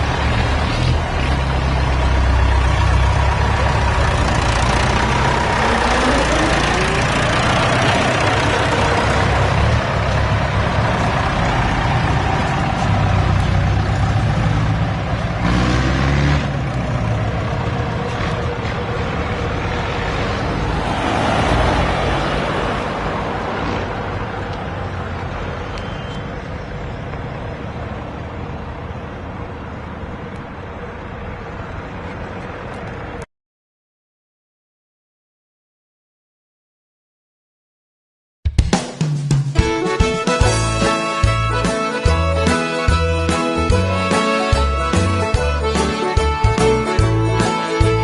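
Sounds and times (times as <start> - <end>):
tractor engines running: 0.0 - 33.3, 39.6 - 48.0.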